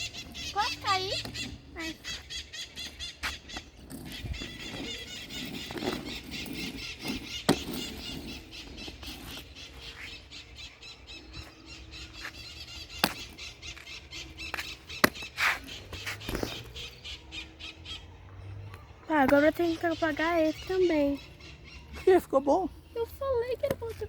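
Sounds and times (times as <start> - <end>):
birds chattering and squealing: 0.0 - 24.0.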